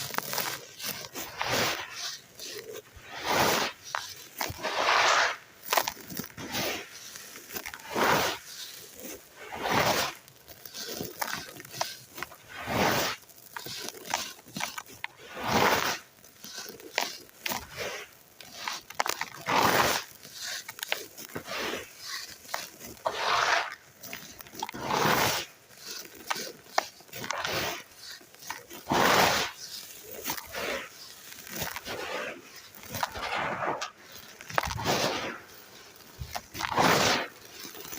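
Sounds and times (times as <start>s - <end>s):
dry dirt crumbled by hand: 0.0s - 37.9s.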